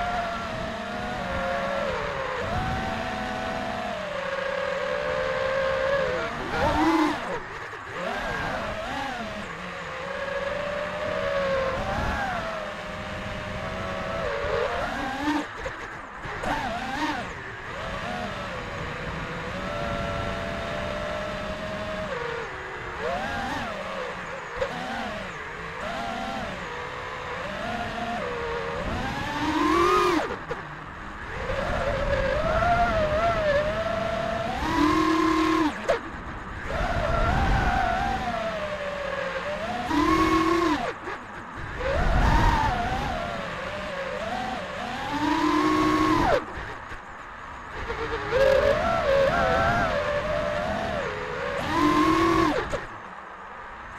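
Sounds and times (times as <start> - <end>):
wind noise: 0.0 - 53.2
drone motors whining: 0.0 - 53.9.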